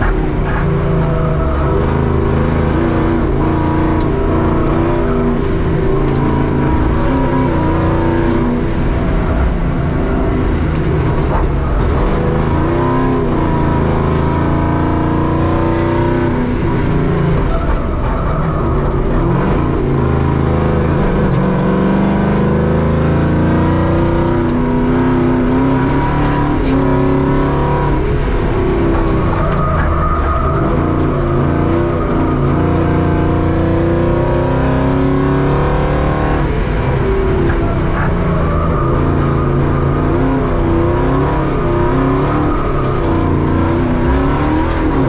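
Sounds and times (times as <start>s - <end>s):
van engine revving: 0.0s - 45.0s.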